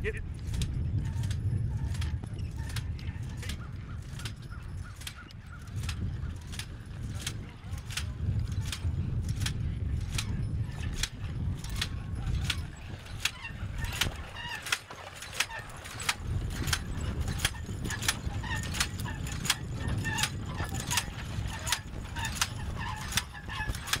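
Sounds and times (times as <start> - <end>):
planter clicking and rattling: 0.3 - 24.0
harness jingling: 0.7 - 24.0.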